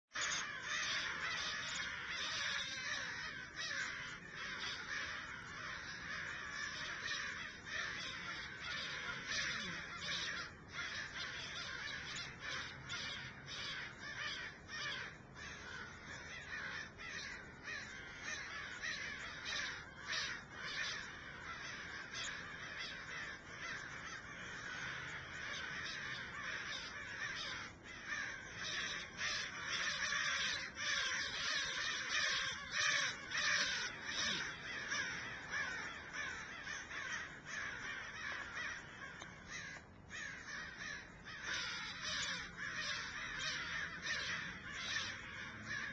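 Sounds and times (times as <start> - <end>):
flock of crows cawing: 0.1 - 45.9.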